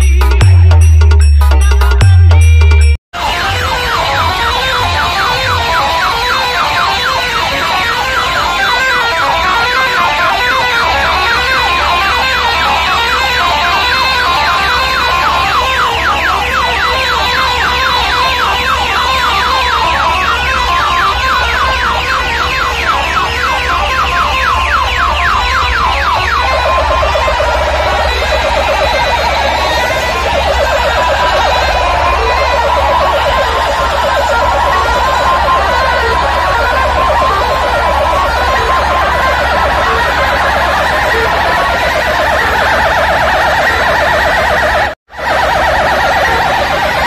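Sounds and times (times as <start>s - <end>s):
siren-like electronic warble: 0.0s - 47.0s.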